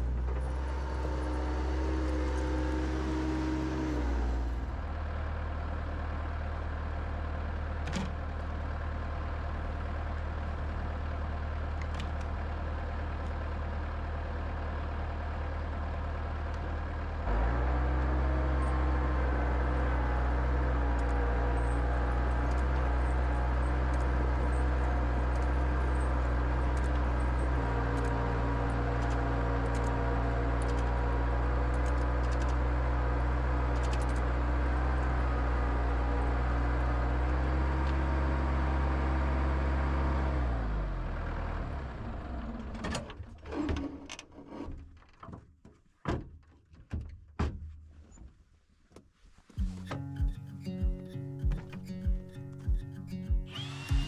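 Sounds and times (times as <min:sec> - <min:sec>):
loader engine running: 0:00.0 - 0:42.8, 0:49.6 - 0:54.0.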